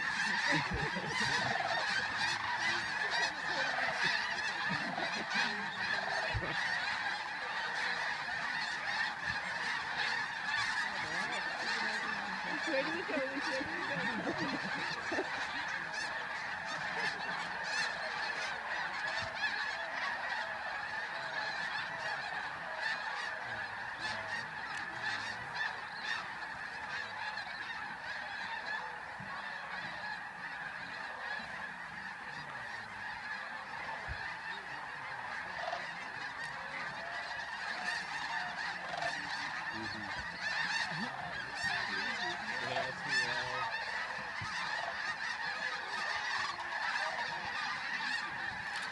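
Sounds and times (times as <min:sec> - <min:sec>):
flock of geese honking: 0:00.0 - 0:48.9.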